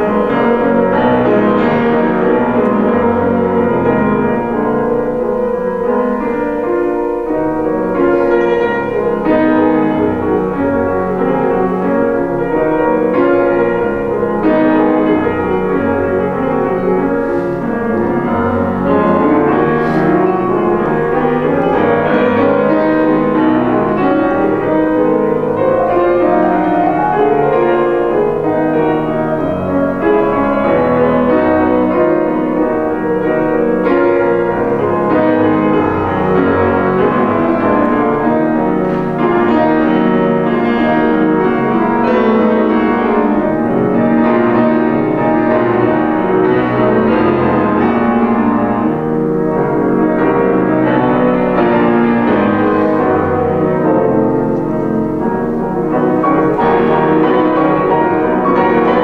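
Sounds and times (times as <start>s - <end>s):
classical piano duet: 0.0s - 59.0s.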